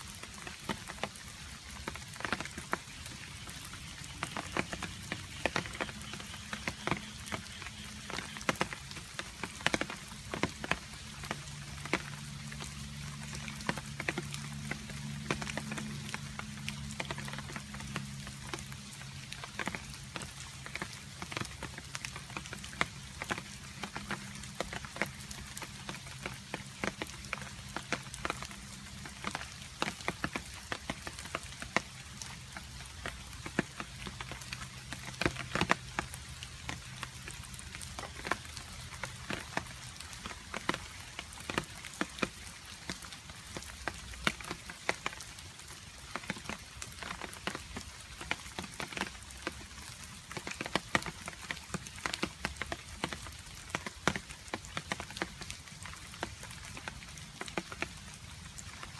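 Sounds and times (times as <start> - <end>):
rain with dripping water drops: 0.0 - 58.9.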